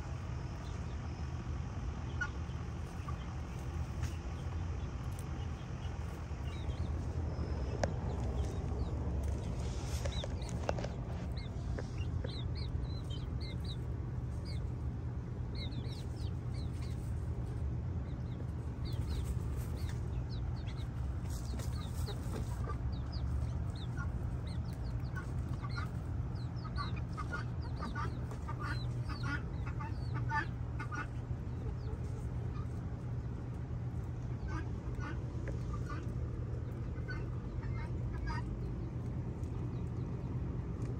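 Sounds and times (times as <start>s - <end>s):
chickens clucking: 0.0s - 40.9s
low background rumble: 0.0s - 40.9s.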